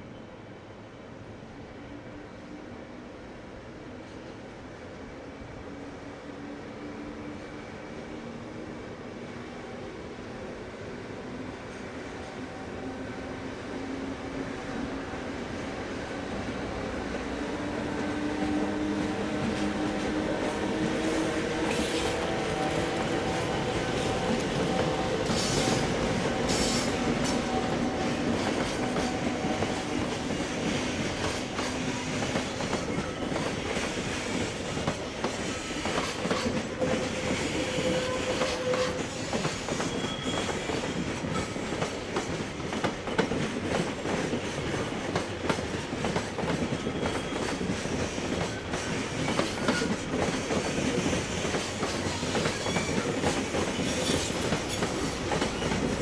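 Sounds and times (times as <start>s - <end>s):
train wagons rushing past: 10.9s - 56.0s.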